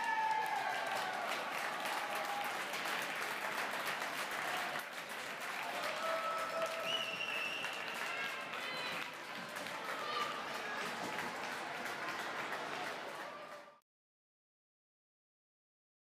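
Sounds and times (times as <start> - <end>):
crowd applauding and cheering: 0.0 - 13.8.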